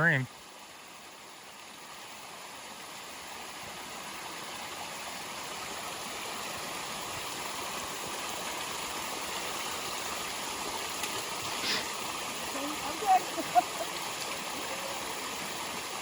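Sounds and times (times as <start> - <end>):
stream and small waterfall: 0.0 - 16.0.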